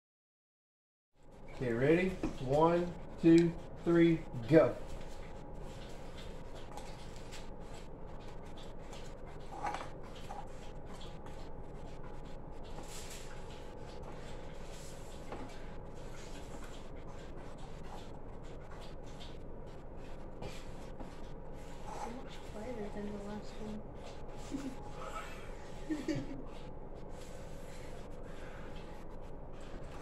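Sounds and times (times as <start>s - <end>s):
faint steady hum: 1.2s - 30.0s.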